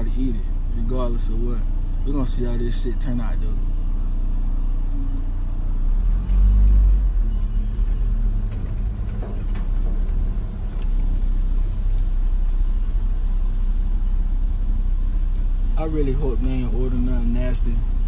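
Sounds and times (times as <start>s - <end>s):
car engine drone: 0.0s - 18.0s
road rumble: 0.0s - 18.0s.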